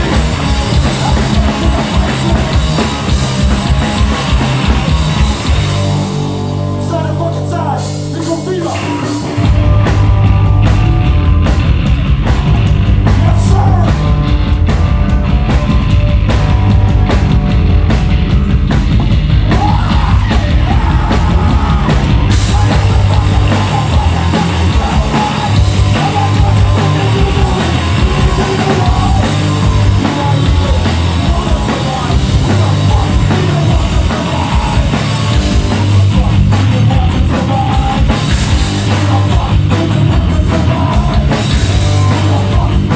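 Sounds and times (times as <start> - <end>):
punk band playing live: 0.0 - 42.9.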